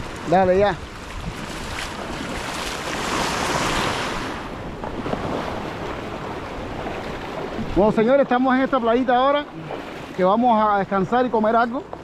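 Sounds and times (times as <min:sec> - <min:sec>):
small waves washing on beach: 0:00.0 - 0:12.0
wind rumbling on microphone: 0:00.0 - 0:12.0.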